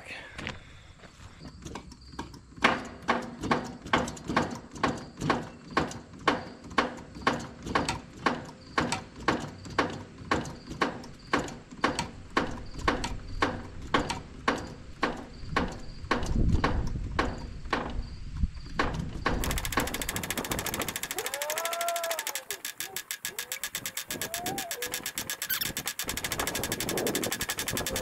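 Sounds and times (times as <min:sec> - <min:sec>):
hand pump clicking and squeaking: 0:01.4 - 0:28.0.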